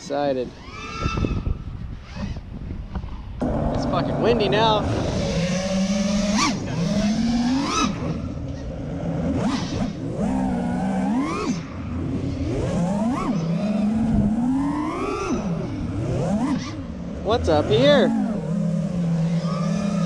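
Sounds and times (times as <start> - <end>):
rush of wind: 0.0 - 10.7, 11.6 - 19.4
drone motors whining: 0.4 - 20.0.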